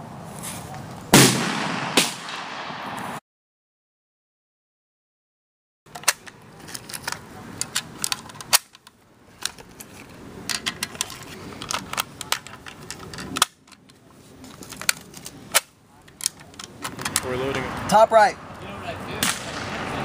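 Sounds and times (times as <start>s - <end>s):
steady background noise: 0.0s - 3.2s, 5.9s - 20.0s.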